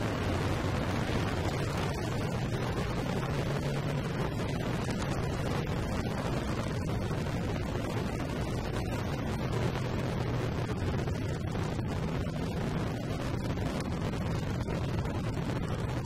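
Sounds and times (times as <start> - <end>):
motorcycle engine rumbling: 0.0 - 16.0
wind noise on microphone: 0.0 - 16.0.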